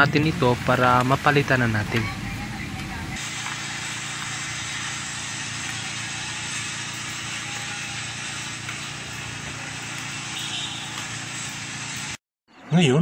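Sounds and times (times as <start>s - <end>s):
mechanical hum with hiss: 0.0s - 12.2s.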